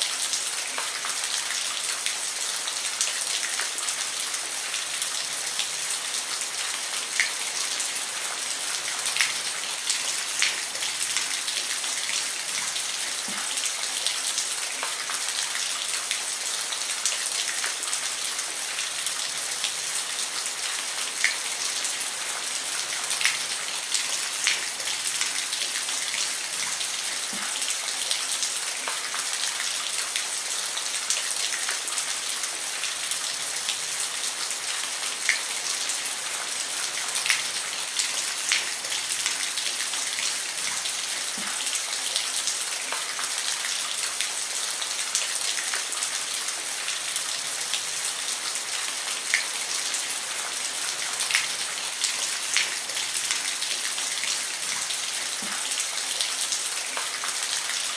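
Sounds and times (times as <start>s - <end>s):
rain falling on a roof: 0.0s - 57.9s.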